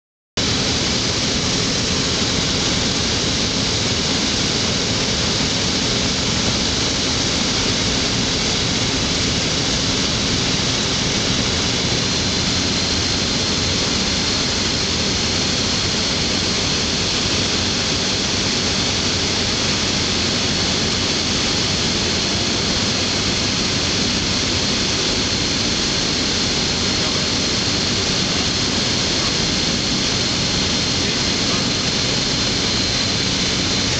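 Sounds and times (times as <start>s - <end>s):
light aircraft engine and propeller: 0.4s - 33.9s
thin high whine: 0.4s - 33.9s.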